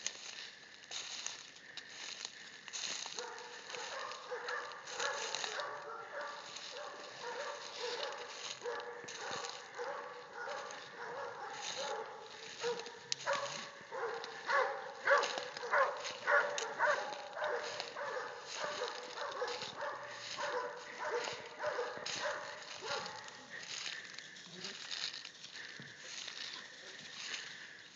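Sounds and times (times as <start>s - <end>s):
dogs barking: 2.8s - 27.8s.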